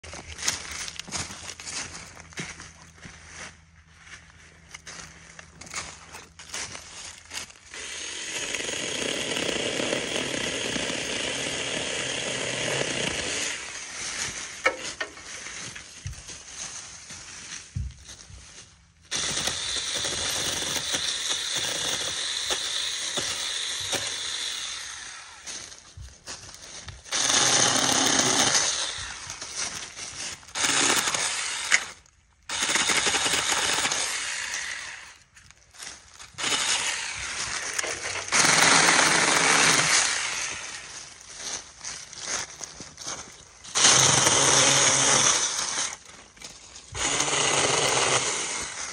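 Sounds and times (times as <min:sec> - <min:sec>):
mini chainsaw cutting brush: 0:04.8 - 0:15.6, 0:19.1 - 0:48.9.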